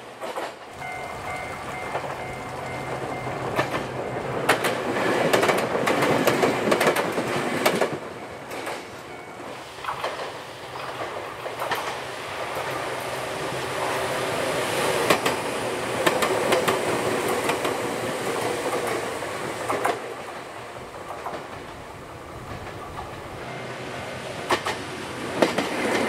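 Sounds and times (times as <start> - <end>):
wheels clicking over rail joints: 0.0 - 13.2, 13.8 - 26.0
electric train passing: 0.0 - 26.0.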